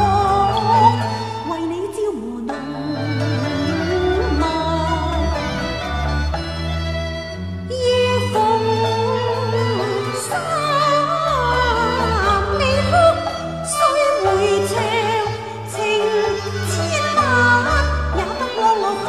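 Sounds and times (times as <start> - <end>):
traditional opera ensemble playing: 0.0 - 19.0.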